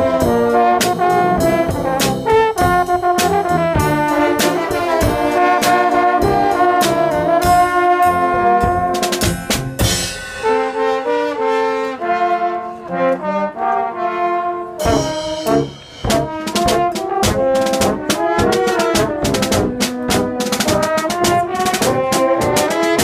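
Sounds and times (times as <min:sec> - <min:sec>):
steady drum beat: 0:00.0 - 0:10.8, 0:14.8 - 0:23.0
horn ensemble playing chords: 0:00.0 - 0:23.0.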